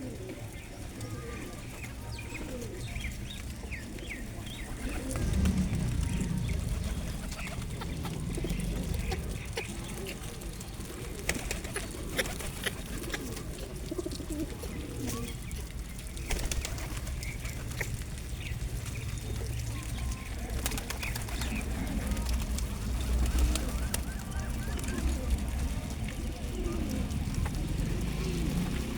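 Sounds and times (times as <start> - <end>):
birds giving low wavering calls: 0.0 - 28.9.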